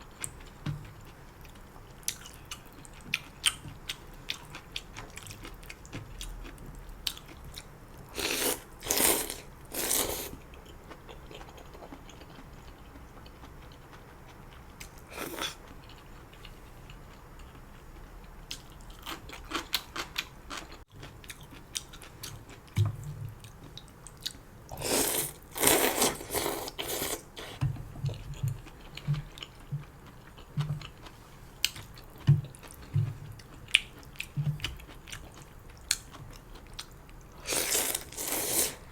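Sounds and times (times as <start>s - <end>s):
chewing and crunching: 0.2s - 38.9s.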